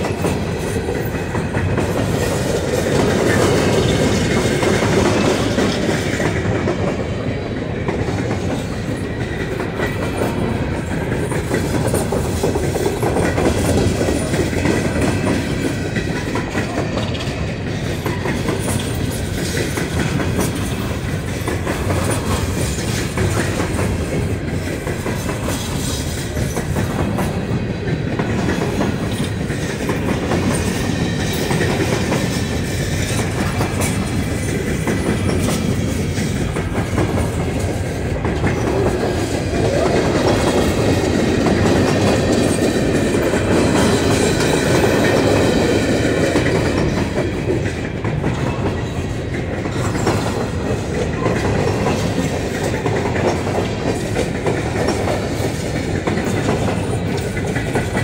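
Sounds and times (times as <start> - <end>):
freight train rumbling and rattling: 0.0 - 58.0
train wheels clacking over rail joints: 0.0 - 58.0.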